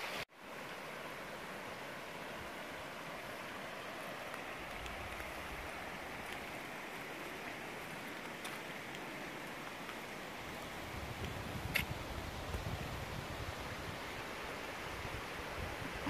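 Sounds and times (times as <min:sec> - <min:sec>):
river running over rocks: 0:00.0 - 0:16.0.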